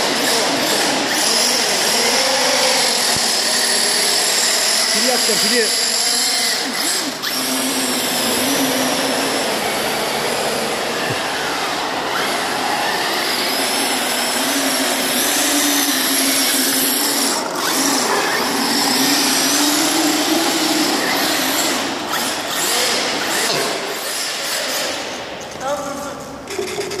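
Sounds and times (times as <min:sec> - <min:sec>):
electric motor whining: 0:00.0 - 0:24.9
small wheels rumbling on concrete: 0:00.0 - 0:27.0.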